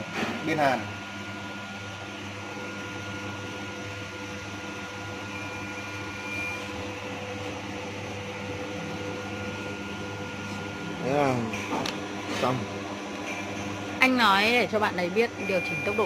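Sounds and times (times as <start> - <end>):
band sealer machine humming: 0.0 - 16.0.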